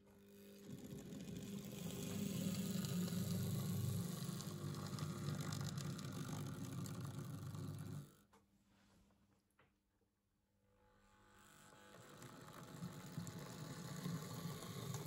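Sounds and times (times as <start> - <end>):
model locomotive motor whirring: 0.1 - 8.2, 11.0 - 15.0.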